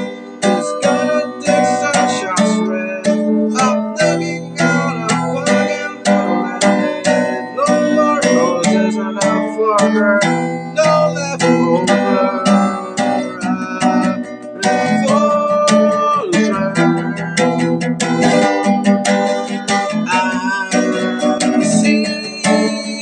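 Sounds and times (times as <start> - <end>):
acoustic guitar strummed: 0.0 - 23.0
man singing: 0.0 - 23.0.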